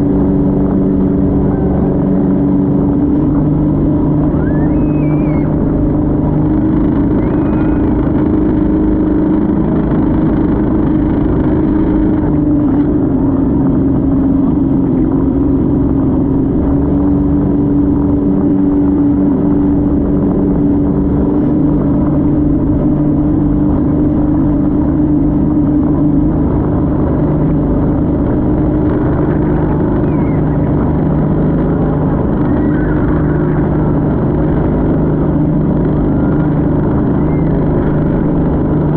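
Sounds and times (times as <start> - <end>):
motorboat engine droning: 0.0 - 38.9.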